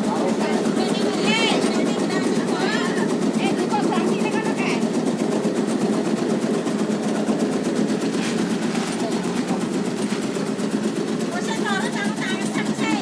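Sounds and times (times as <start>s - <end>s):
cutting machine engine hum: 0.0s - 13.0s
blade chopping leaves: 0.1s - 13.0s.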